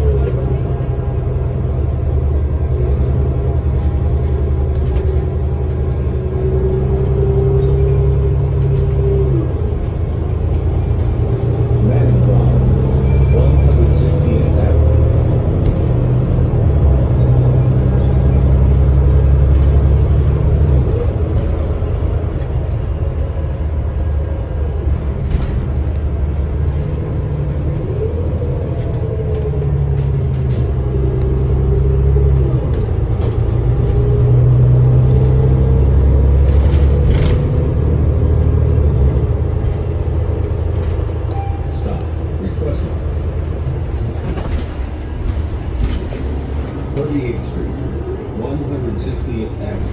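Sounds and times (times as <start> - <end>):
bus engine and road rumble: 0.0 - 49.9
bus whine: 0.0 - 49.9.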